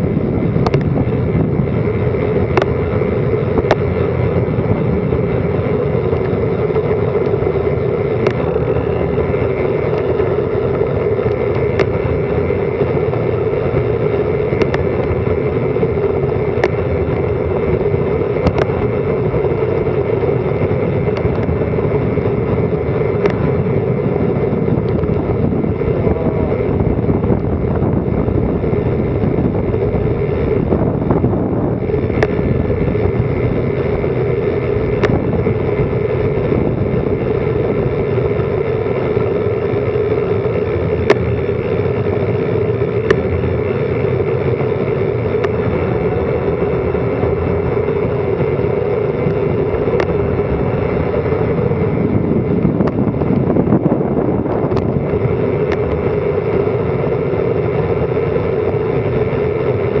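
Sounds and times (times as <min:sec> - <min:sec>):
bicycle rolling noise: 0:00.0 - 1:00.0
rushing wind: 0:00.0 - 1:00.0.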